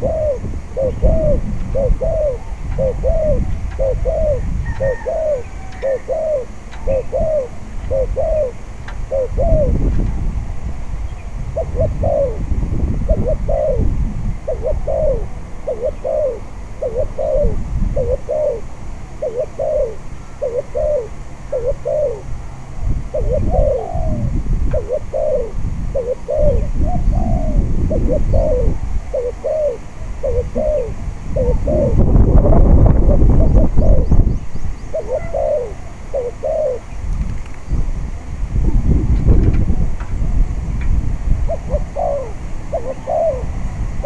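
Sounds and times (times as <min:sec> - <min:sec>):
dove cooing: 0:00.0 - 0:37.4, 0:41.4 - 0:44.0
wind rumbling on microphone: 0:00.0 - 0:44.0.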